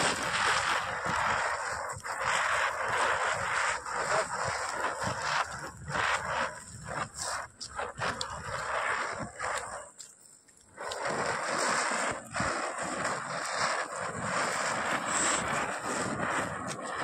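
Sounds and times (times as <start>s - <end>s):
firework hissing crackle: 0.0s - 17.0s.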